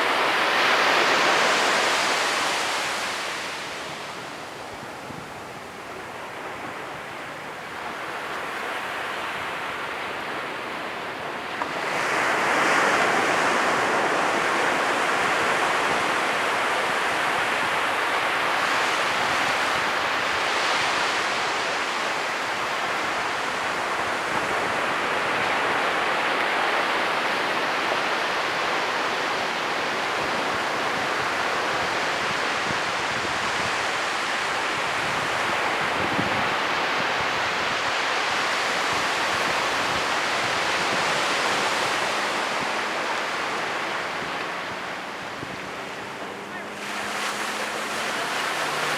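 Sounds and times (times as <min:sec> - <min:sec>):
ocean waves breaking: 0:00.0 - 0:48.9.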